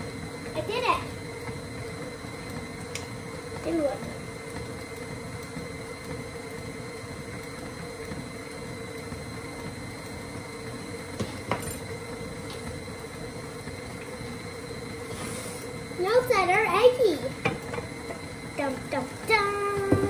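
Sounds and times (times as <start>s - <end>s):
stand mixer humming: 0.0s - 20.0s.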